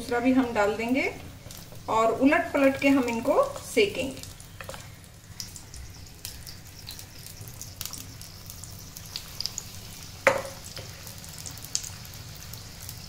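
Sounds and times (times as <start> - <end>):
chillies deep-frying in oil: 0.0 - 13.0.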